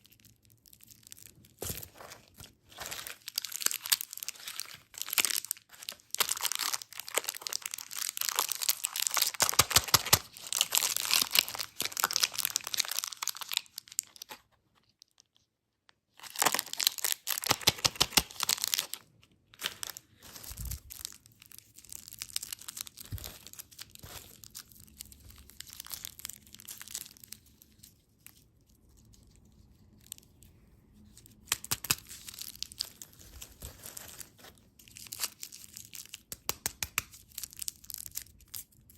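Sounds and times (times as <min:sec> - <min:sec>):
plastic wrappers crinkling: 0:00.0 - 0:15.3, 0:16.2 - 0:30.4, 0:31.1 - 0:38.8.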